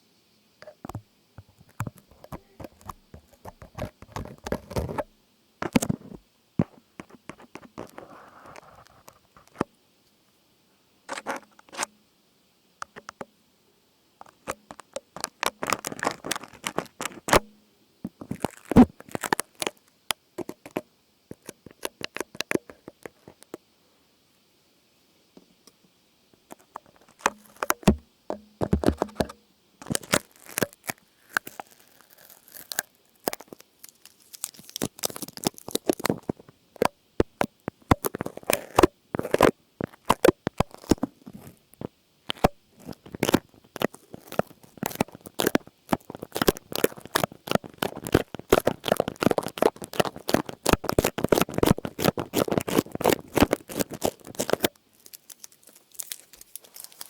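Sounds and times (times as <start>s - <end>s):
crinkling and crackling: 0.6s - 9.7s, 11.1s - 11.9s, 14.2s - 23.6s, 26.4s - 57.0s.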